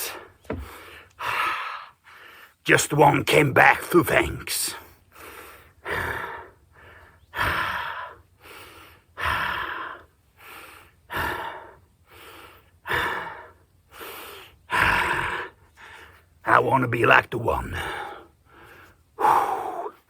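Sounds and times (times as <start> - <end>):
man breathing hard: 0.0 - 2.6, 4.8 - 16.4, 17.8 - 20.0.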